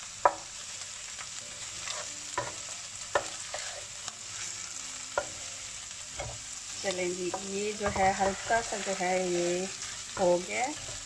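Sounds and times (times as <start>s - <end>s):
paste sizzling in oil: 0.0s - 11.0s.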